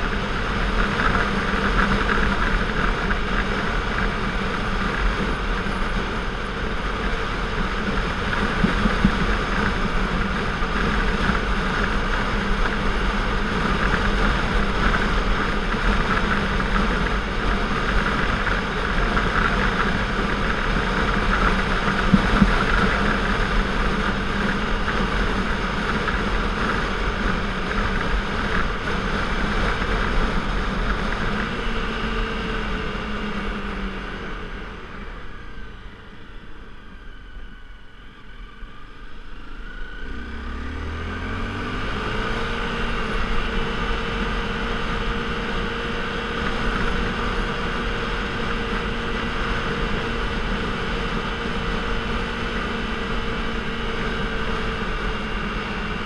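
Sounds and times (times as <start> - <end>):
motorcycle engine humming: 0.0 - 56.0
wind and road noise: 0.0 - 56.0.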